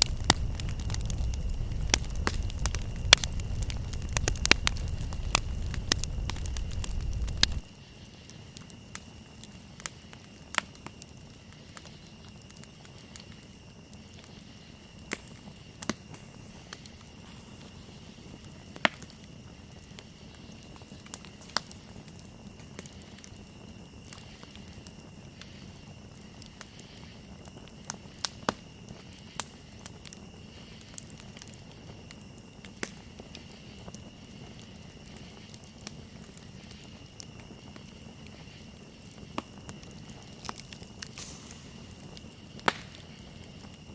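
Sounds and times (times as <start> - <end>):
campfire crackling and popping: 0.0 - 43.9
night insects trilling: 0.0 - 43.9.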